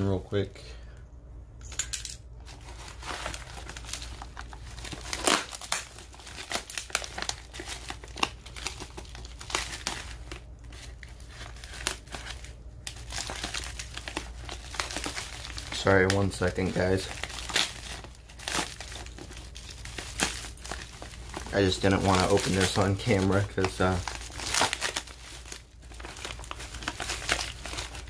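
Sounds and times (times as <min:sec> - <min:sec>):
packing material crinkling: 0:02.4 - 0:28.0
packing material tearing: 0:02.5 - 0:28.0.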